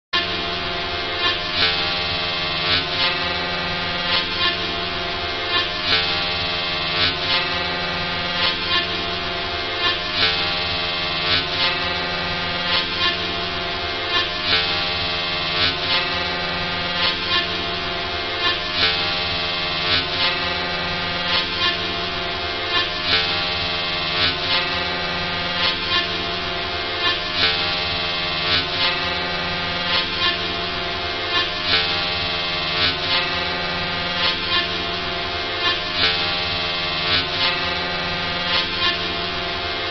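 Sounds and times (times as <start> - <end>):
dense electric hum: 0.2 - 39.9.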